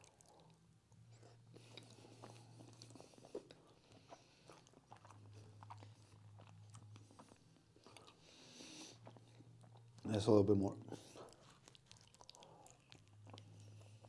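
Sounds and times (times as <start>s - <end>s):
person chewing food: 0.0s - 10.0s, 10.9s - 14.0s
low steady hum: 0.0s - 14.0s.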